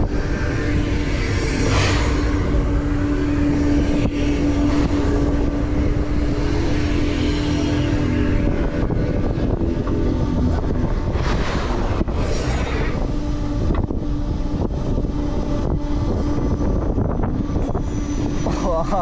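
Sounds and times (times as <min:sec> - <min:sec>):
steady mechanical hum: 0:00.0 - 0:19.0
wind buffeting microphone: 0:00.0 - 0:19.0.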